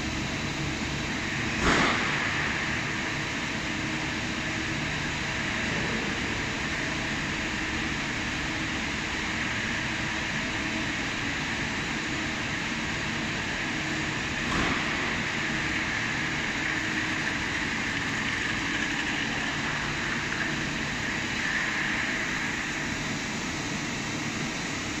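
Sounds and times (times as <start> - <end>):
machine hiss over low hum: 0.0 - 25.0.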